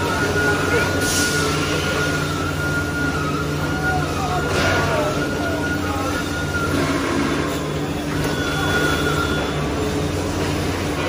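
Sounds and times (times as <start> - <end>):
high-pitched whine: 0.0 - 11.0
machinery hum: 0.0 - 11.0.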